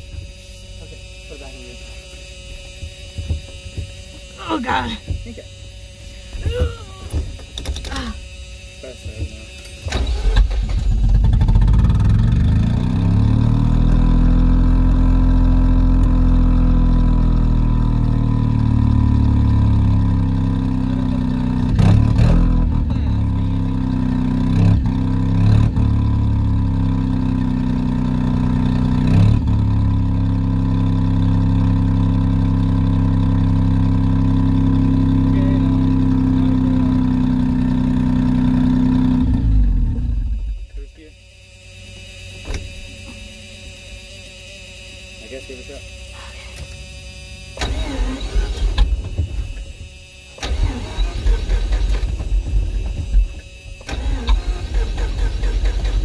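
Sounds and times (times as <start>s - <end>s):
engine throttle blips: 0.0s - 56.0s
rotary engine starting and idling: 2.9s - 56.0s.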